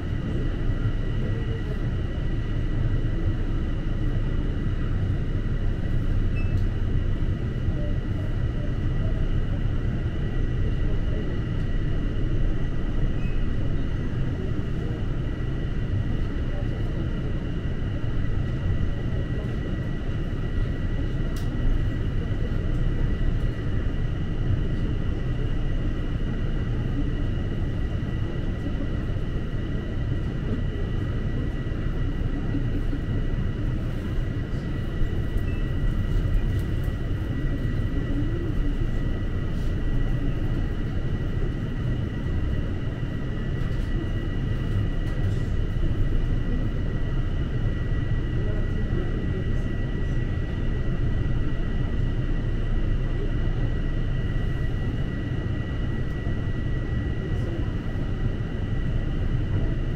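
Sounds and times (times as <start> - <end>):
subway train rumbling in tunnel: 0.0 - 59.9.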